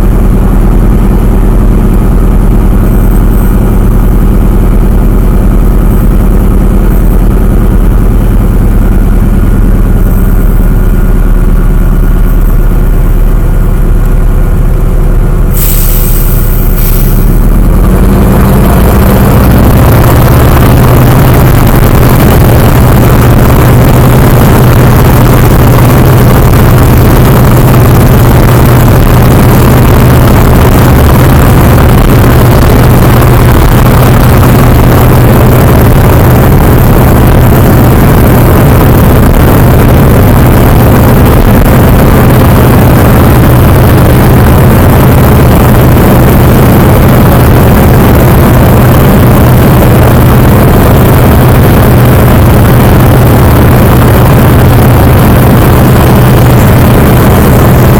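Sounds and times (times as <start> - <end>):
radial engine and propeller drone: 0.0 - 57.9.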